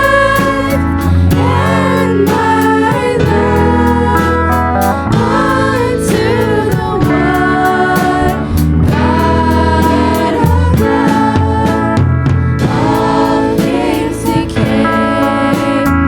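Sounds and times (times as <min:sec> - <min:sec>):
instrumental accompaniment: 0:00.0 - 0:16.0
voices singing held notes: 0:00.0 - 0:16.0.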